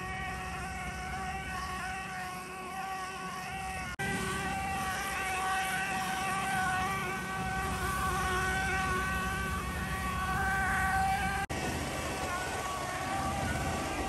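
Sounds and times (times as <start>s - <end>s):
spraying machine drone with whine: 0.0s - 14.0s.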